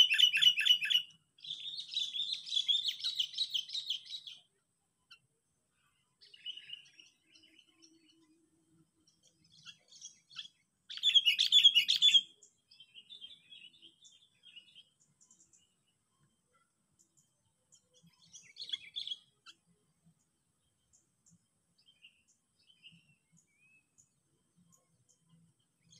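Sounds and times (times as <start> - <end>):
bird chirping: 0.0 - 25.9.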